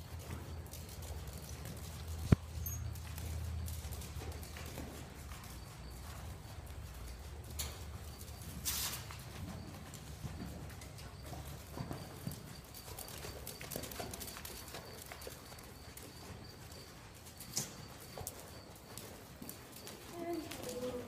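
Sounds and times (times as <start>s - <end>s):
horse hooves trotting on sand: 0.0s - 21.0s.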